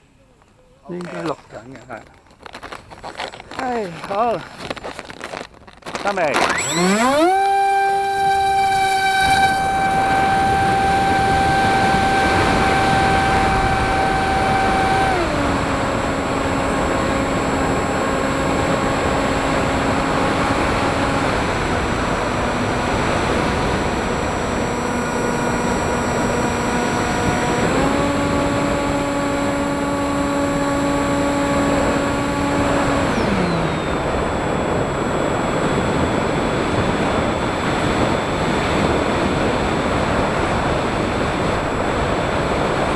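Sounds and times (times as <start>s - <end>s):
drone motors whining: 1.0s - 42.9s.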